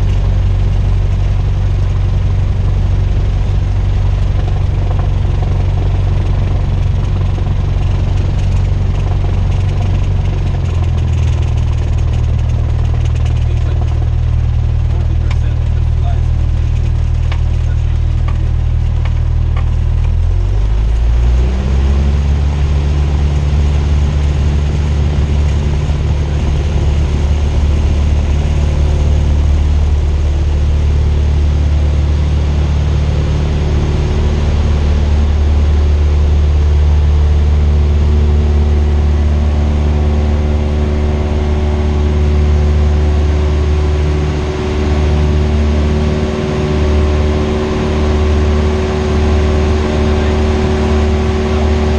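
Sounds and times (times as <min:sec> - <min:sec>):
small plane engine: 0:00.0 - 0:51.9.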